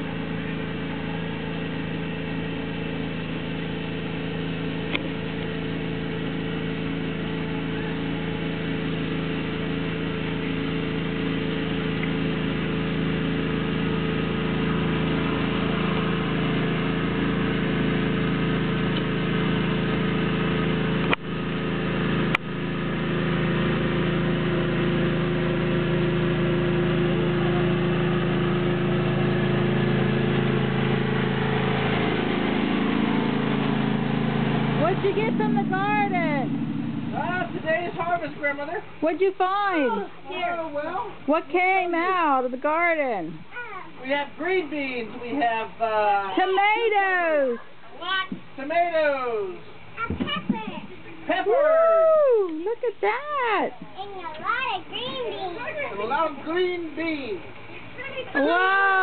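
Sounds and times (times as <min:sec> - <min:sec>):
lawn tractor engine running: 0:00.0 - 0:43.2, 0:52.5 - 0:59.0.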